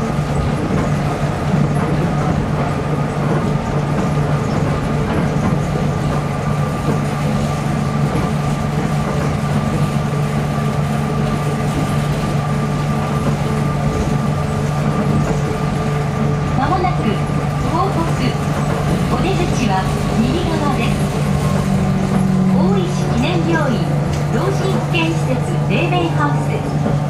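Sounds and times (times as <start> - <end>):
train running hum and rumble: 0.0 - 27.0.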